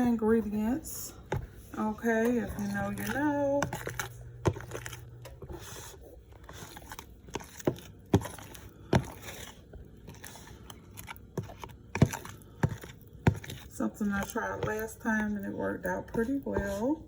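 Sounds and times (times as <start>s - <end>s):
utensil scraping bowl: 0.0s - 17.0s.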